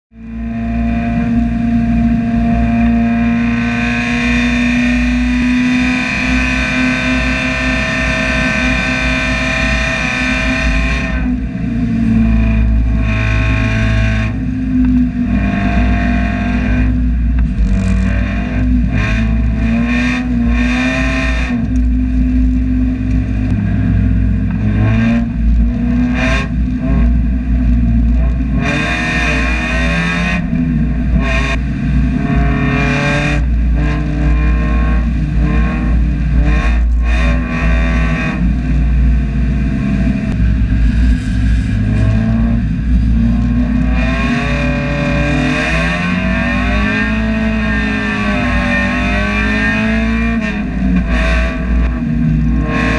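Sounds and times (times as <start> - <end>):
race car engine revving: 0.2 - 52.9.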